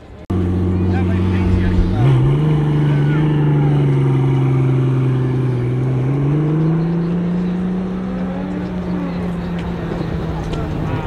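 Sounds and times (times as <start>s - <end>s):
car engine pulling away: 0.1s - 11.0s.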